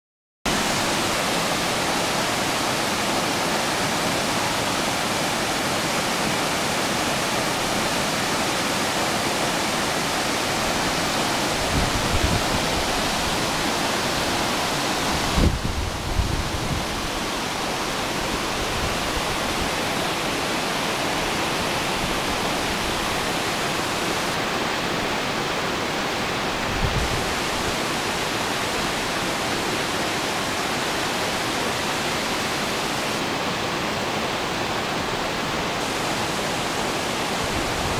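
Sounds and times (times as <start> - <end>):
waterfall rushing: 0.5 - 37.9.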